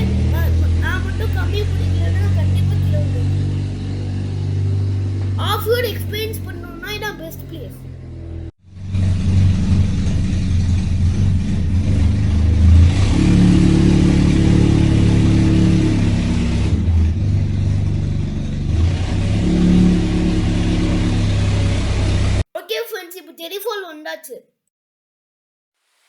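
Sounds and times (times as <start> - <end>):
off-road engine revving: 0.0 - 22.4.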